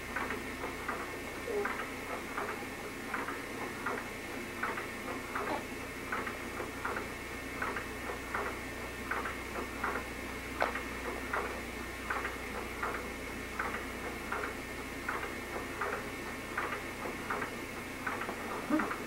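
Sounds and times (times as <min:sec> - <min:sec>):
baby swing mechanism ticking: 0:00.1 - 0:19.0.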